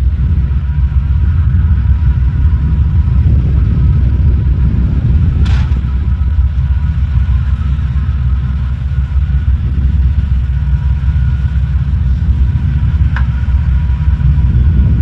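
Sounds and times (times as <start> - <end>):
engine running low rumble: 0.0 - 15.0.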